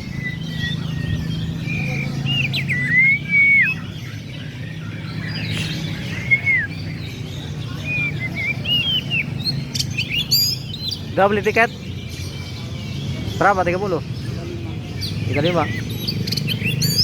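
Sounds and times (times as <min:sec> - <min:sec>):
songbirds whistling and chirping: 0:00.0 - 0:17.0.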